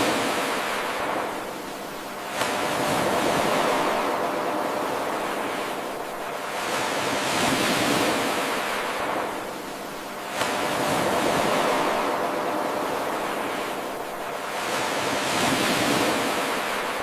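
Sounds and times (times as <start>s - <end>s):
ocean waves washing ashore: 0.0s - 17.0s.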